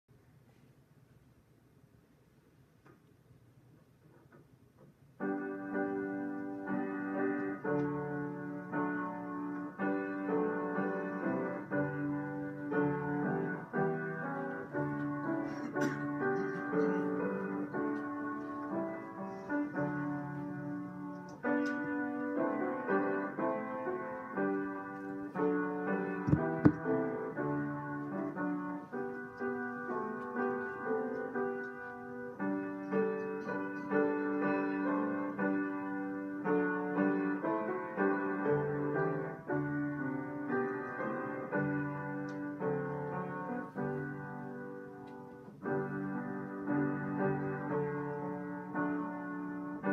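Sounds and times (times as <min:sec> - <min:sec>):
slow solo piano: 0:04.2 - 0:49.9.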